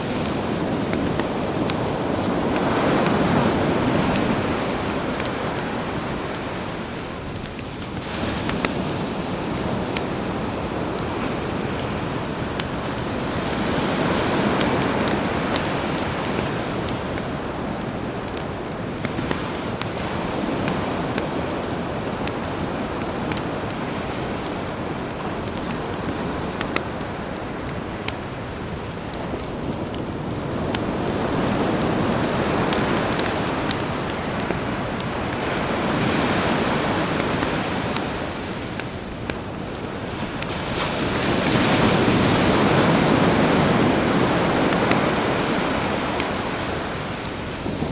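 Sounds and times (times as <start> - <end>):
campfire crackling: 0.0 - 47.9
sea waves washing ashore: 0.0 - 47.9.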